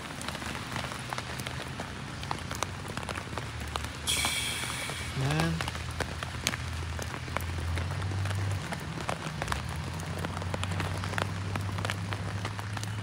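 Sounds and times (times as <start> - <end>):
rain falling: 0.0 - 13.0
raindrops tapping: 0.0 - 13.0.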